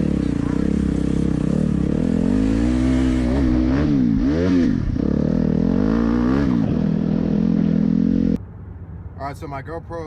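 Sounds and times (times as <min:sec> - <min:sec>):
dirt bike engine revving: 0:00.0 - 0:08.4.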